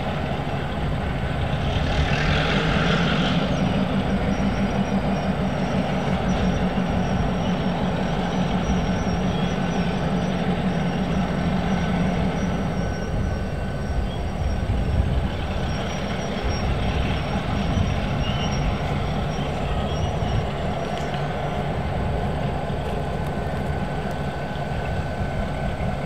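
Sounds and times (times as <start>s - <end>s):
diesel engine drone: 0.0s - 26.0s
train wheels rumbling: 0.0s - 26.0s.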